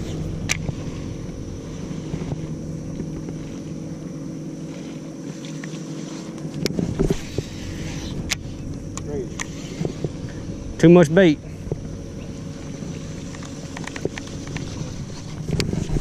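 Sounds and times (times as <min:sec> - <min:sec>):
electric trolling motor humming: 0:00.0 - 0:16.0.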